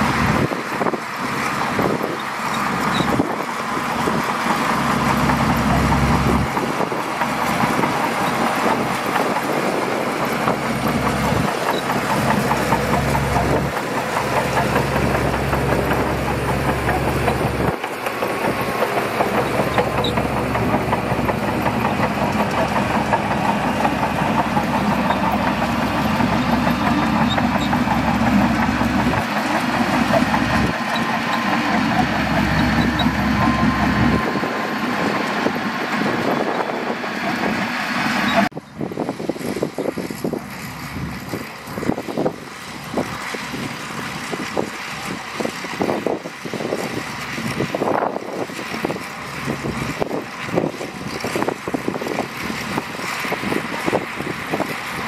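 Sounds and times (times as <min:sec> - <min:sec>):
bulldozer diesel engine: 0:00.0 - 0:55.0.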